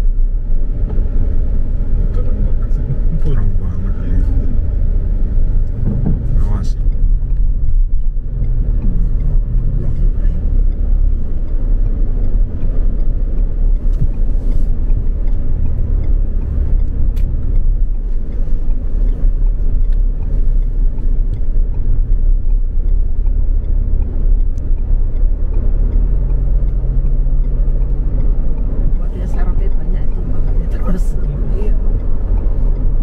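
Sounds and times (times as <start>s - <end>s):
car engine rumble: 0.0s - 33.0s
road noise: 0.0s - 33.0s.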